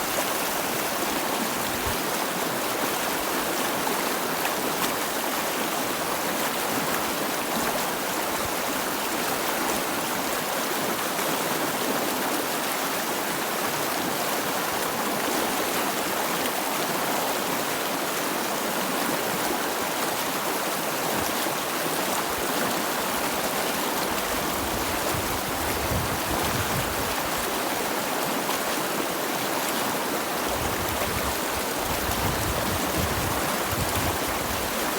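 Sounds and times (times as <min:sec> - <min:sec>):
stream water running: 0:00.0 - 0:34.9.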